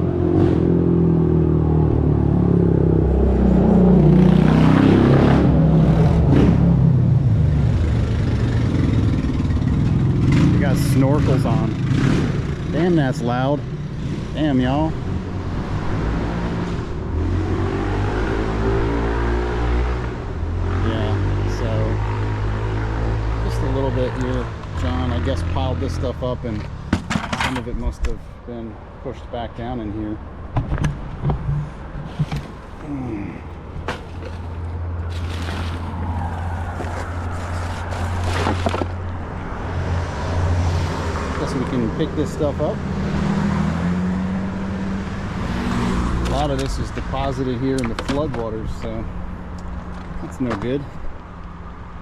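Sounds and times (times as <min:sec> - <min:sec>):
atv engines passing: 0:00.0 - 0:30.5, 0:31.4 - 0:52.0.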